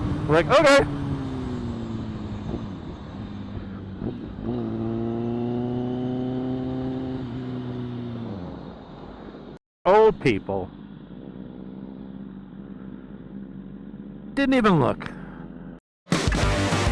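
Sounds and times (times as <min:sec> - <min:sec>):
motorcycle engine running: 0:00.0 - 0:09.6, 0:10.3 - 0:16.9.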